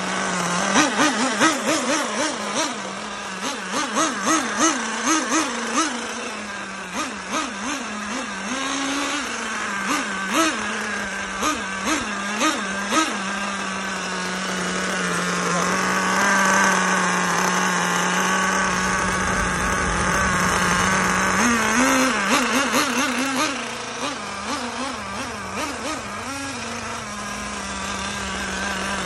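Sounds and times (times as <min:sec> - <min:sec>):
small model engine revving: 0:00.0 - 0:29.0.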